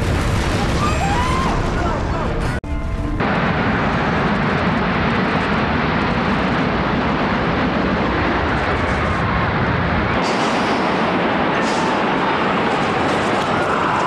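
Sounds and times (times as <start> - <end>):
building collapsing rumble: 0.0 - 14.0.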